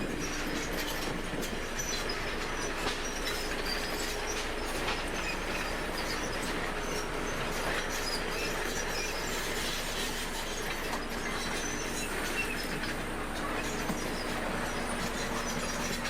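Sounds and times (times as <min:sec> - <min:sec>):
bulldozer diesel engine: 0:00.0 - 0:16.0
steel tracks clattering: 0:00.0 - 0:16.0
track links squeaking: 0:00.0 - 0:16.0.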